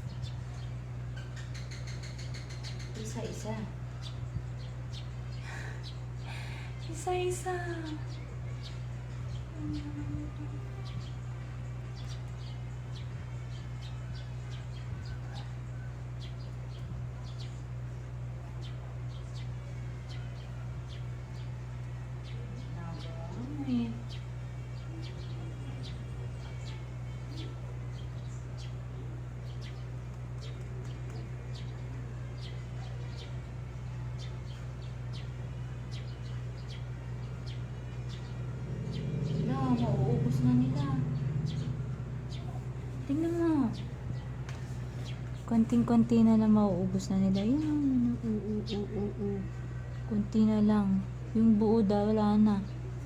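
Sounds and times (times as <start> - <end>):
small birds chirping: 0.0 - 53.0
steady low hum: 0.0 - 53.0.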